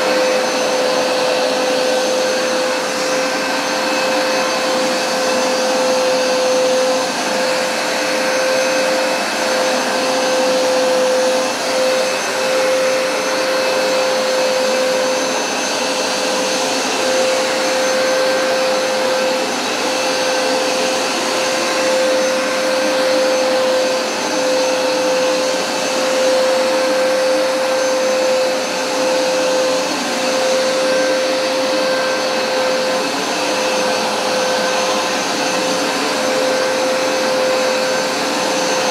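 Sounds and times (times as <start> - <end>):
carpet cleaner motor whine: 0.0 - 38.9.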